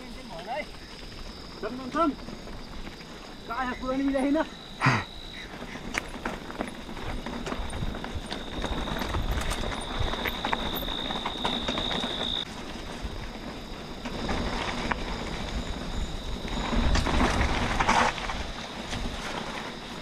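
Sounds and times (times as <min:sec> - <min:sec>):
bike rattling and knocking: 0:00.0 - 0:20.0
bike tyres on dirt trail: 0:00.0 - 0:20.0.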